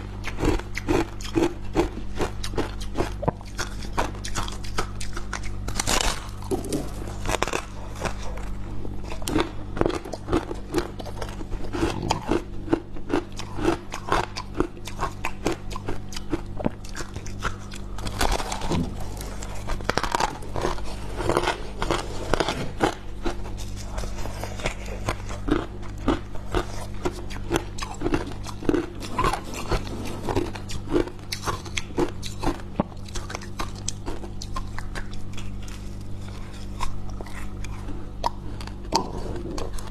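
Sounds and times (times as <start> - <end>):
frost being chewed: 0.0 - 39.9
steady low hum: 0.0 - 39.9.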